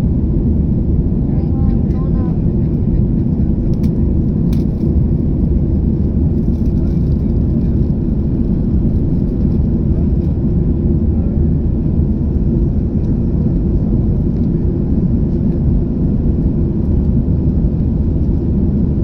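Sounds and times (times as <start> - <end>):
jet engines rumbling during takeoff: 0.0 - 19.0.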